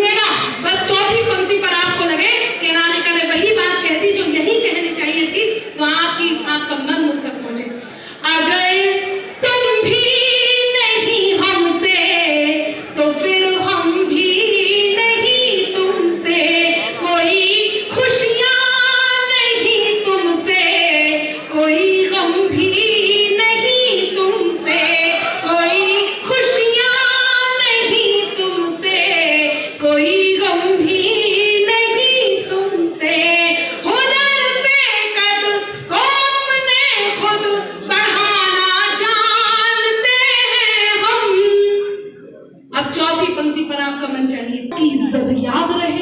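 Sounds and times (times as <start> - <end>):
woman singing into microphone: 0.0 - 6.6, 8.2 - 42.0.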